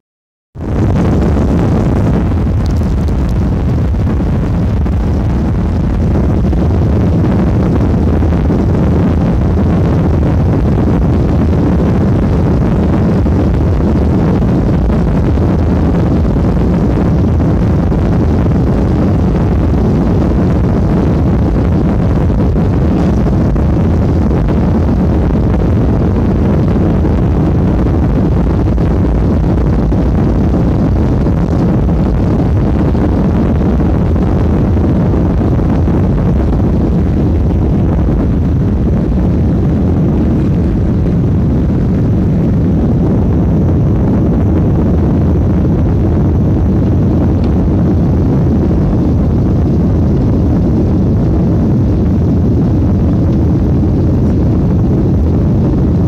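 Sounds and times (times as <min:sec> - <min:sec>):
jet engines rumbling at takeoff: 0:00.6 - 0:56.0.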